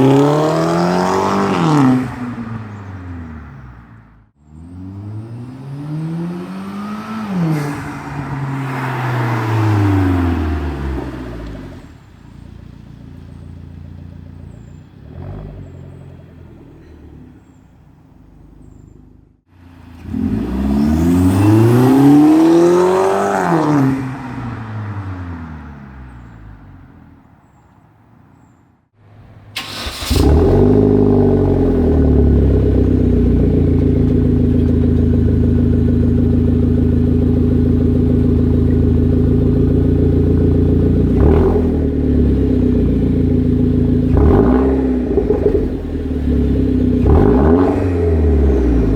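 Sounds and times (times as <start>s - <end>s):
car engine and exhaust revving: 0.0s - 27.7s, 29.5s - 48.9s.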